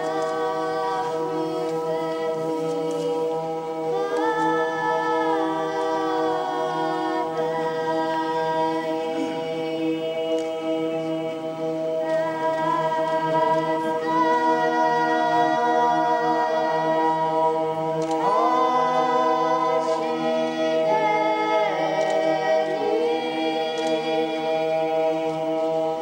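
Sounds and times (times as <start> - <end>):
choir chanting: 0.0 - 26.0.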